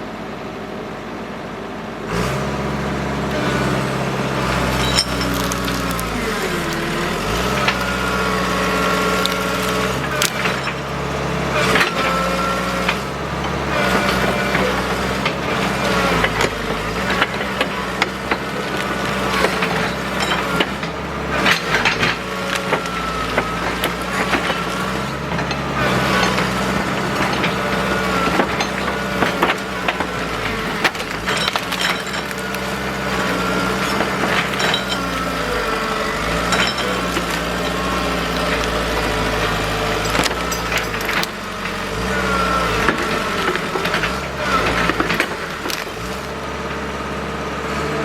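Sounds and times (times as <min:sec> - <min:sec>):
excavator engine and hydraulics: 0:00.0 - 0:48.0
wood and brush cracking: 0:04.4 - 0:46.6.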